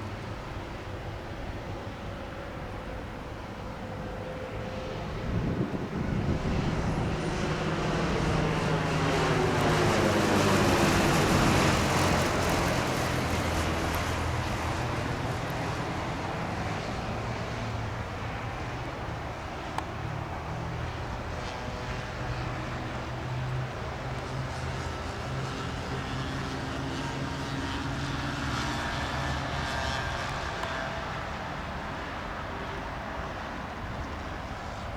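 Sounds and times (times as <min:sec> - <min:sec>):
light aircraft engine and propeller: 0:00.0 - 0:34.9
plane passing whoosh: 0:01.7 - 0:34.9.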